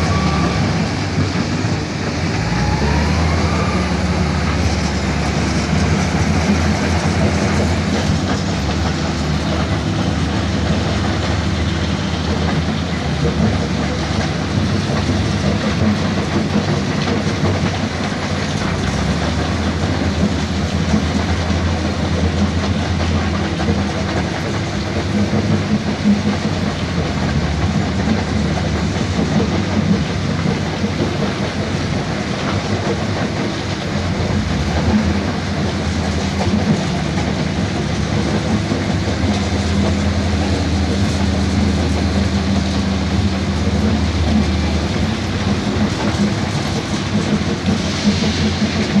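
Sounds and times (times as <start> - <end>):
diesel truck engine rattling: 0.0 - 49.0.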